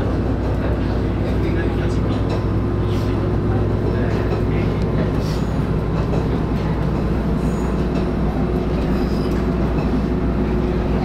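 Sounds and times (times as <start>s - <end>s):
railcar engine and wheels rumbling: 0.0s - 11.0s.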